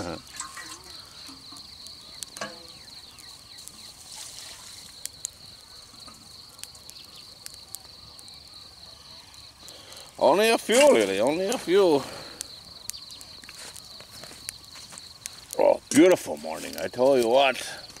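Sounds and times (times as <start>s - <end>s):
high-pitched insect trill: 0.0s - 18.0s.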